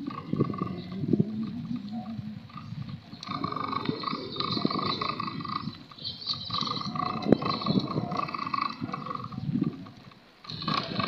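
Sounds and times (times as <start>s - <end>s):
rhythmic pulsing call: 0.0s - 9.7s
wind and bicycle riding noise: 0.0s - 11.0s.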